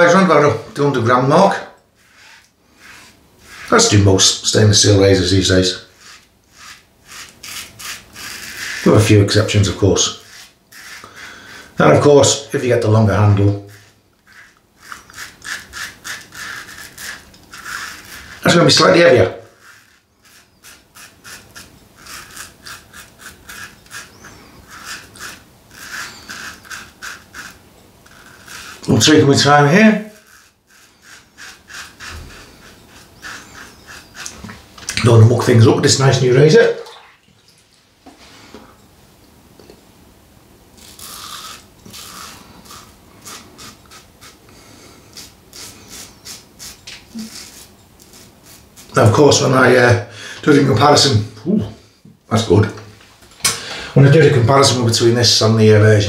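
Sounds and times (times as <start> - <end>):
razor scraping stubble: 0.0 - 36.8, 40.7 - 51.3.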